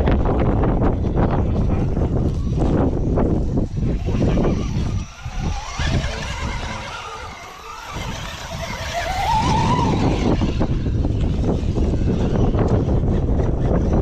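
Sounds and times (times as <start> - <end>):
wind buffeting microphone: 0.0 - 14.0
small electric motor whine: 2.1 - 13.9.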